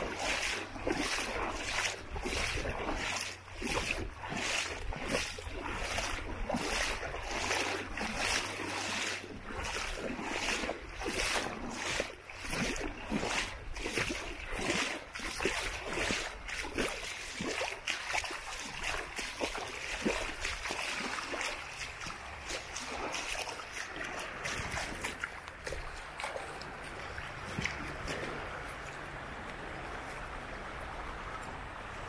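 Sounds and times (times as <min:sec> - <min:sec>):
water splashing and trickling: 0:00.0 - 0:32.0.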